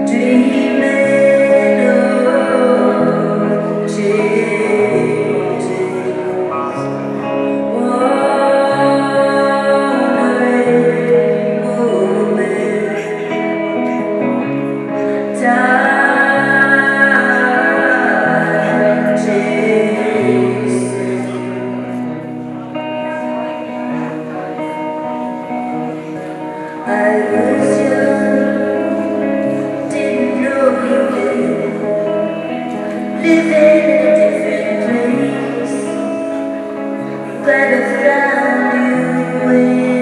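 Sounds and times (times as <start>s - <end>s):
woman singing: 0.0s - 22.0s, 26.4s - 40.0s
electric guitar chords: 0.0s - 40.0s.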